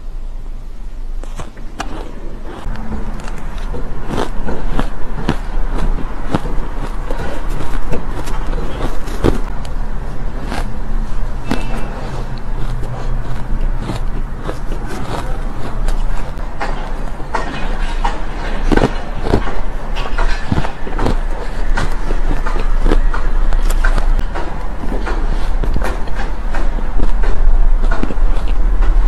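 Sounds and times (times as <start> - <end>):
steady low hum: 0.0 - 29.0
chewing crunchy shaved ice: 1.2 - 29.0.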